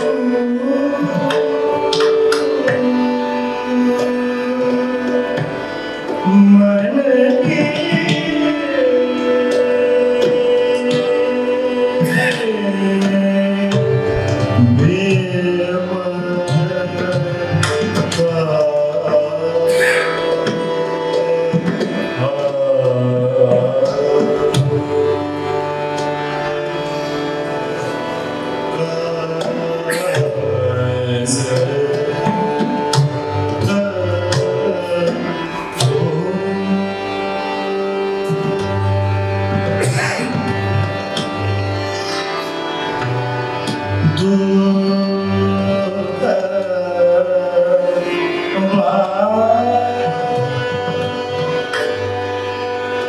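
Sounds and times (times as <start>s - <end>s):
man singing: 0.0s - 25.2s, 28.6s - 38.8s, 39.6s - 41.1s, 43.6s - 52.0s
tabla playing: 0.0s - 53.0s.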